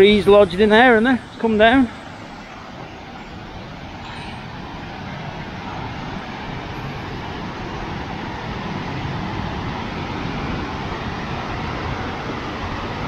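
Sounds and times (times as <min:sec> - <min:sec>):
white water rushing over rocks: 0:00.0 - 0:13.0.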